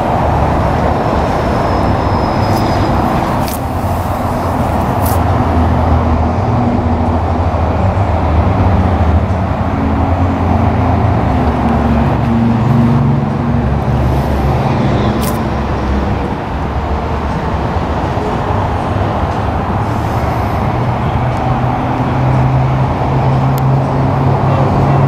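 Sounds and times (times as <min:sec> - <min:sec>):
road traffic: 0:00.0 - 0:25.0
train diesel engine drone: 0:00.0 - 0:25.0.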